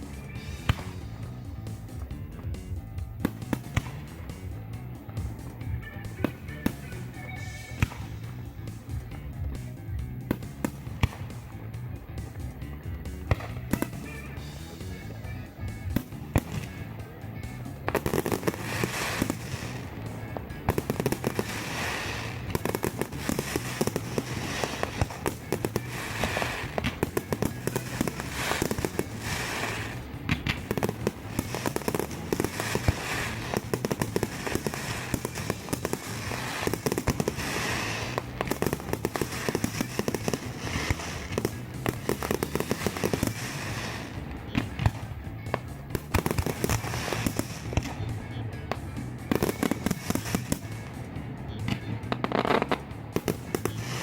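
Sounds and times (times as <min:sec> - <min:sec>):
background music with steady beat: 0:00.0 - 0:54.0
fireworks bursting and crackling: 0:00.0 - 0:54.0.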